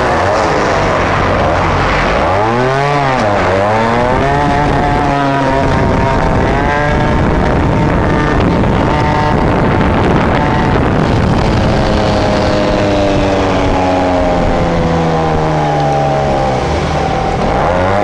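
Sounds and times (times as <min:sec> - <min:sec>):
wind rush on microphone: 0:00.0 - 0:18.0
two-stroke moped engine running: 0:02.2 - 0:18.0.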